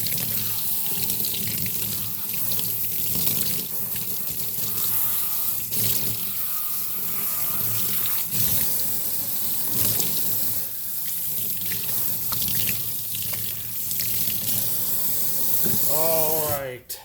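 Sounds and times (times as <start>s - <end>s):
tap water running into sink: 0.0s - 16.6s.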